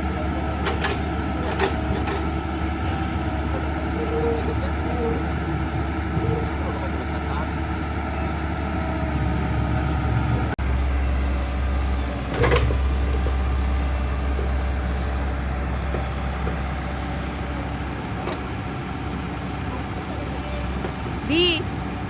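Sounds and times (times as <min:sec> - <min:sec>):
backhoe engine rumbling: 0:00.0 - 0:22.0.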